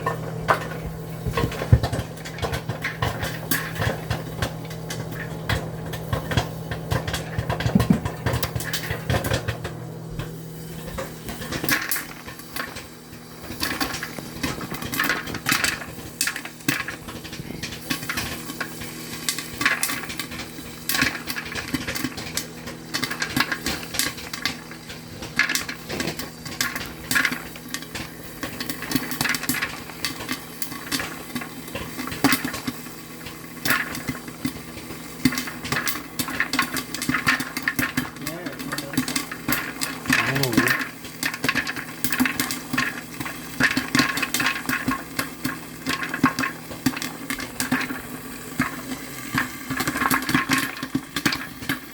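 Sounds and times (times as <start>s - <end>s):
popcorn kernels popping: 0.0s - 51.9s.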